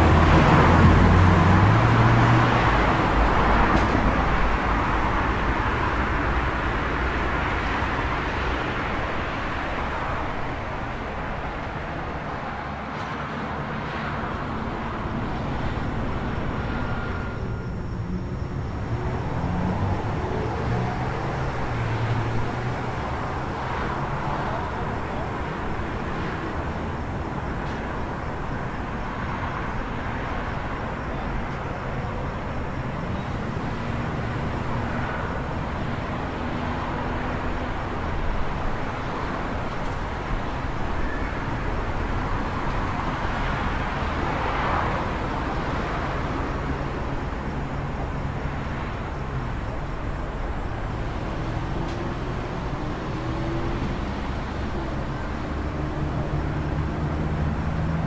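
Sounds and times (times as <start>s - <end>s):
cars passing: 0.0s - 58.0s
road traffic: 0.0s - 58.0s.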